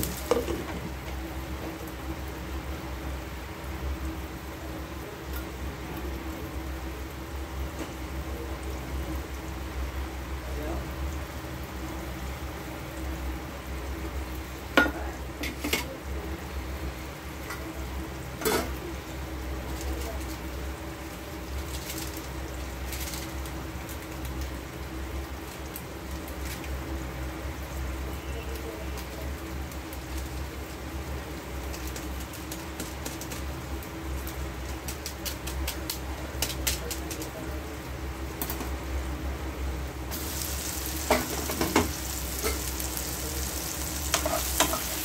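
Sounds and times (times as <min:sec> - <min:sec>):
food sizzling in a pan: 0:00.0 - 0:37.3, 0:40.0 - 0:45.0.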